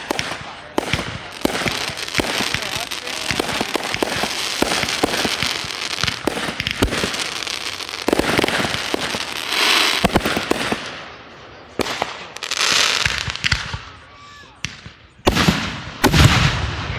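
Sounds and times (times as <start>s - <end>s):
fireworks bangs and crackling: 0.0s - 14.0s, 14.6s - 16.9s.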